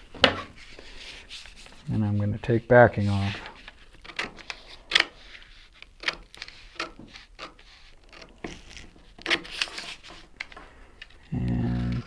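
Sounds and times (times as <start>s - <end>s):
paper crinkling and rustling: 0.2s - 12.0s.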